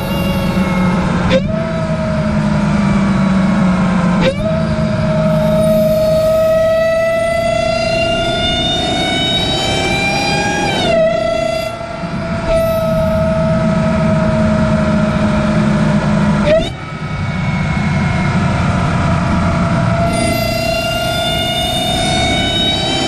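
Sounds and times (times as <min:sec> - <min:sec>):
engine rumble: 0:00.0 - 0:23.0
supercharger whine: 0:00.0 - 0:23.0.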